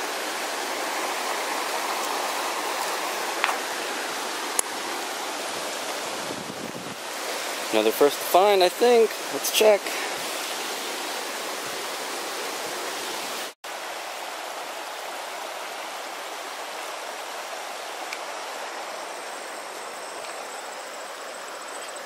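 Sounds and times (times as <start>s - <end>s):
river rushing over stones: 0.0s - 22.0s.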